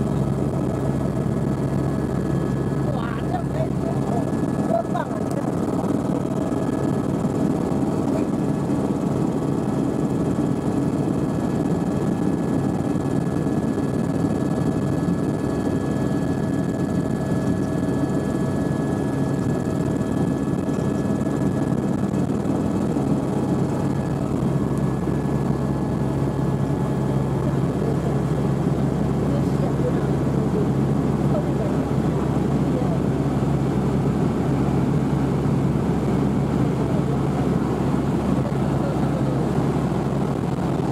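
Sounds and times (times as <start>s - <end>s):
helicopter engine and rotors droning: 0.0s - 40.9s.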